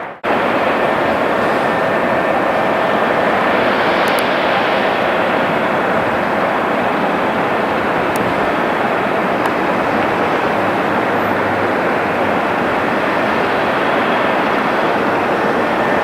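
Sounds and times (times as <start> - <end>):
jet airliner engine roar: 0.0 - 16.0.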